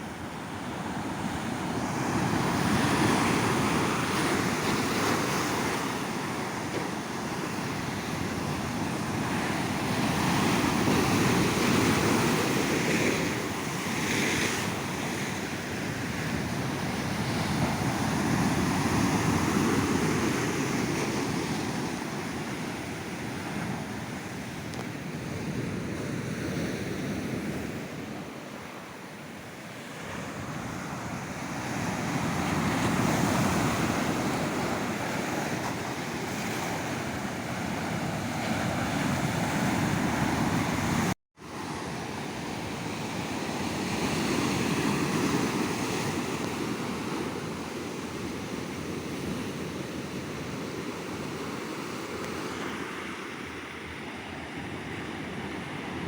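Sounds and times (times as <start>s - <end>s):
ocean surf washing onto beach: 0.0s - 56.0s.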